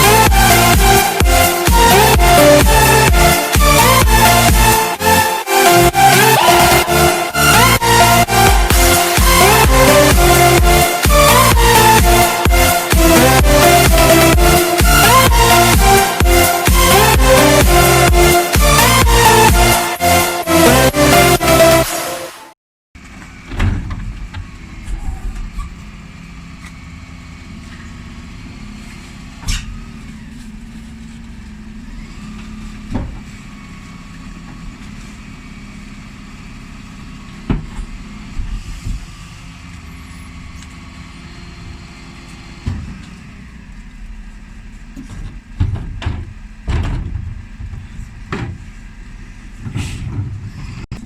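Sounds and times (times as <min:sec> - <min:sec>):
refuse lorry engine hum: 0:00.0 - 0:51.0.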